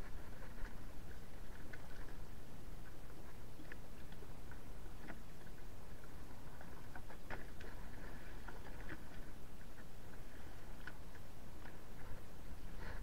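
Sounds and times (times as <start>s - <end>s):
water lapping against boat hull: 0.0s - 13.0s
wind rumble on microphone: 0.0s - 13.0s.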